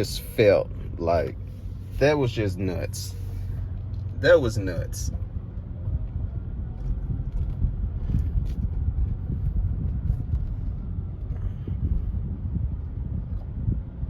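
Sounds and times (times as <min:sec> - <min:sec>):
tyre and road noise: 0:00.0 - 0:14.0.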